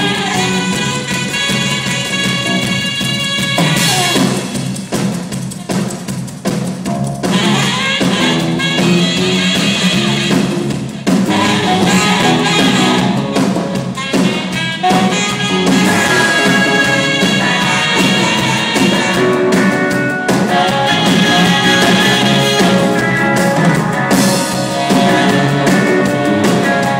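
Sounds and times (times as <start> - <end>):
live rock band playing: 0.0 - 26.9.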